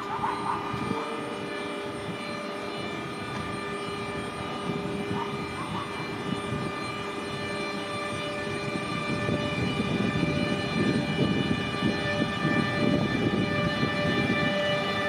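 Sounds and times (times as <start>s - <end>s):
electric locomotive whine: 0.0s - 15.0s.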